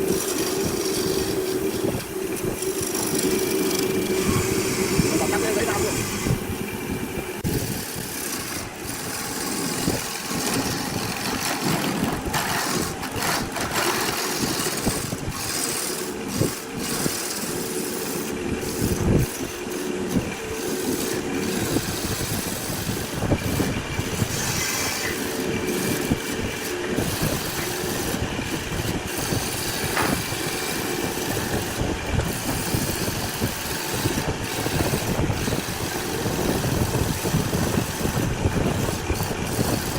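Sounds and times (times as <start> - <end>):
tool hissing on wood: 0.0 - 39.9
wood lathe running: 0.0 - 39.9.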